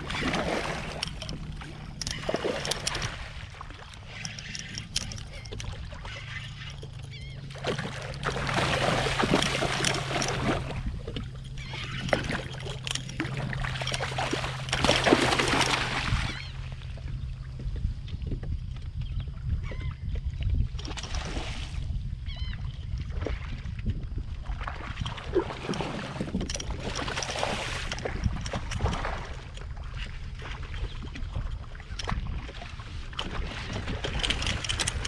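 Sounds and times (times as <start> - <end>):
low steady hum: 0.0 - 35.0
water splashing around kayak: 0.0 - 35.0.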